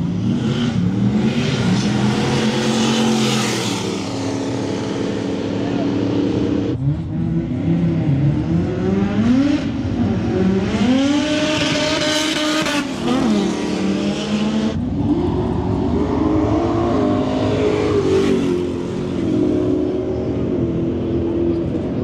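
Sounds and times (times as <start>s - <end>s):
cars revving and accelerating: 0.0s - 22.0s.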